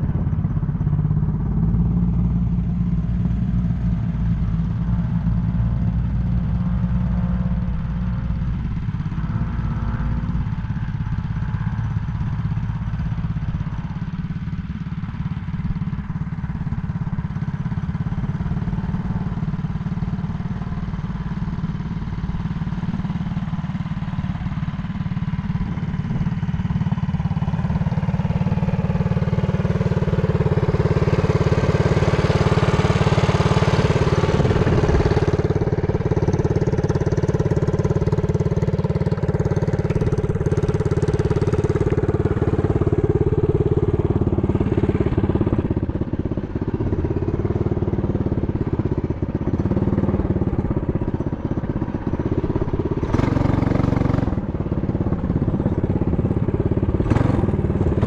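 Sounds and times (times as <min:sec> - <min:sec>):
small motorbike engine running: 0:00.0 - 0:58.0.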